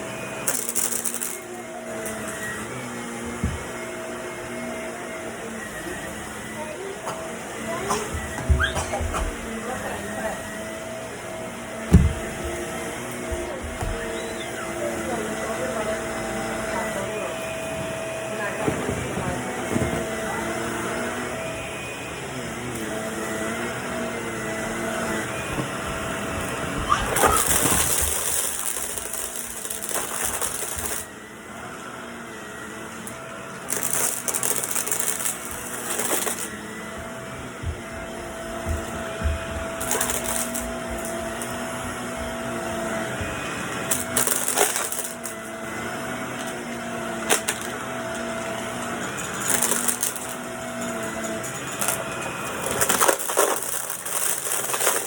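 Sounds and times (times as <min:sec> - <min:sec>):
vacuum cleaner motor hum: 0:00.0 - 0:55.0.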